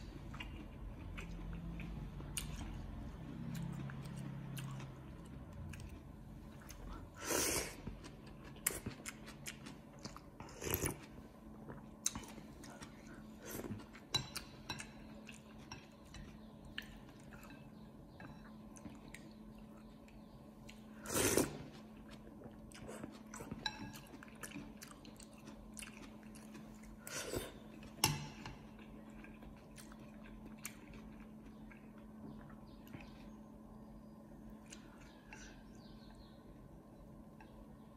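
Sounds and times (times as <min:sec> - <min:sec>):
faint steady hum: 0:00.0 - 0:37.9
chewing: 0:00.2 - 0:28.0, 0:28.6 - 0:33.2.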